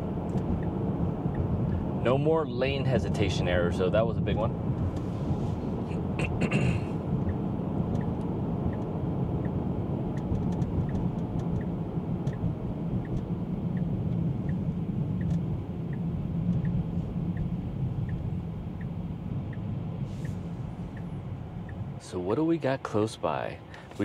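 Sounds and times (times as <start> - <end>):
turn signal ticking: 0.0 - 2.0, 3.0 - 5.1, 5.7 - 22.5
road and tyre rumble in car: 0.0 - 24.0.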